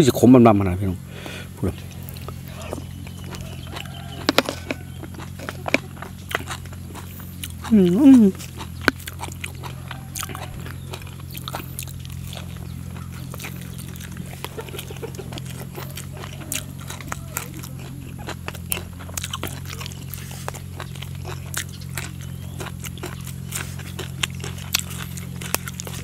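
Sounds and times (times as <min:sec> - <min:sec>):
steady low hum: 0:00.0 - 0:26.0
crunchy bites: 0:01.2 - 0:26.0
wet chewing: 0:01.2 - 0:26.0
lip smacks: 0:01.8 - 0:26.0.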